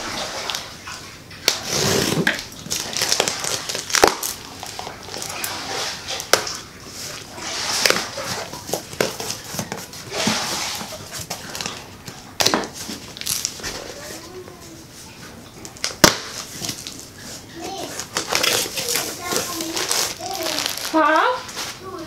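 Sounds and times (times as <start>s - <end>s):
plastic packaging rustling: 1.4s - 22.0s.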